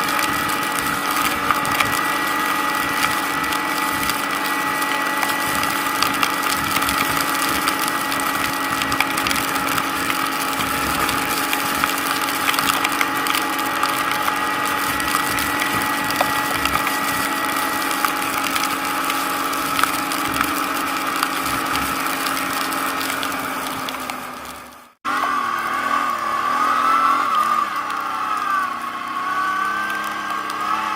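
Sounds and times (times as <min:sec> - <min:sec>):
atv engine running: 0:00.0 - 0:30.9
dense crackling and crunching: 0:00.0 - 0:30.9.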